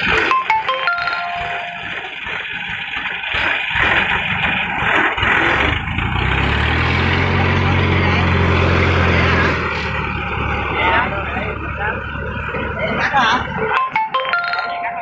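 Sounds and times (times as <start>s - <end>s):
engine running: 0.0s - 14.1s.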